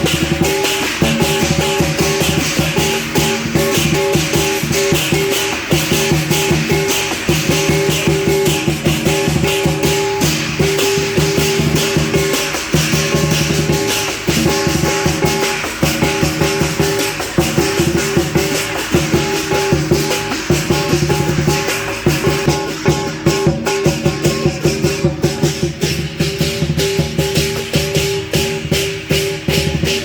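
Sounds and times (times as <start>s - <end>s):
cymbals clashing: 0.0s - 30.0s
large drum beaten fast: 0.0s - 30.0s.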